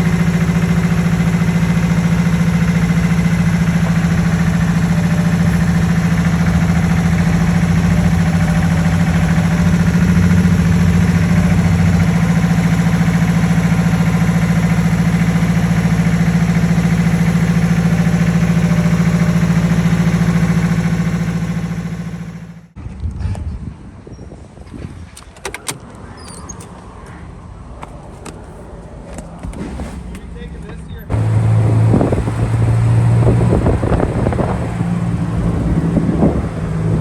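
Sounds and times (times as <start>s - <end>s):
vehicle engine humming: 0.0s - 22.8s, 25.6s - 37.0s.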